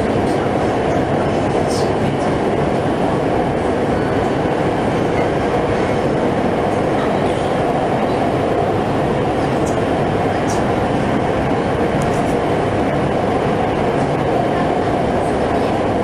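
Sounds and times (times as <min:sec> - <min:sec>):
train rumbling through tunnel: 0:00.0 - 0:16.0.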